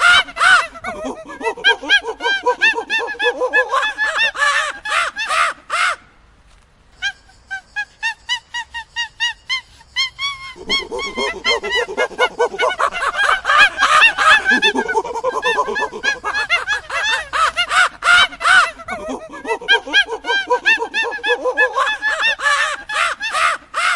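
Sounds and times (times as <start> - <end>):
monkeys calling: 0.0 - 6.0, 7.0 - 23.9.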